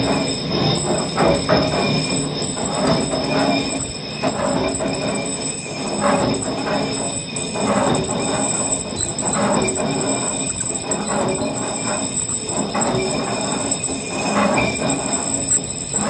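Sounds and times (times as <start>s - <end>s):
machine running with high whine: 0.0s - 16.0s.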